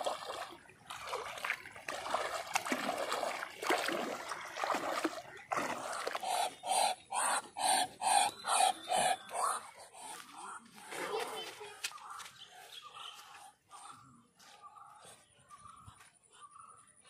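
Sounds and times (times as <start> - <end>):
wading through shallow water: 0.0 - 16.7.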